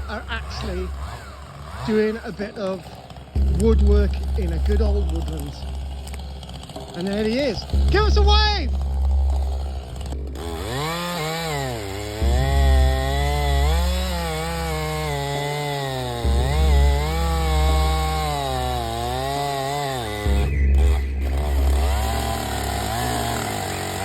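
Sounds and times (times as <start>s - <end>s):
chainsaw cutting into tree: 0.0s - 24.0s.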